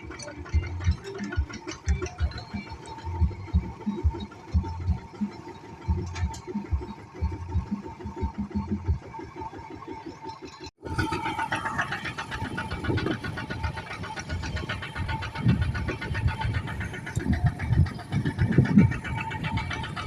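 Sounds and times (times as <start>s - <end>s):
engine knocking beat: 0.0s - 20.0s.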